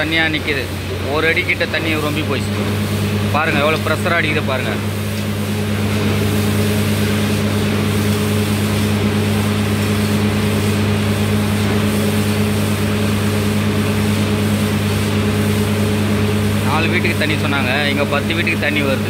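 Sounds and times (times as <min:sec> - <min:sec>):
drilling rig engine drone: 0:00.0 - 0:19.0.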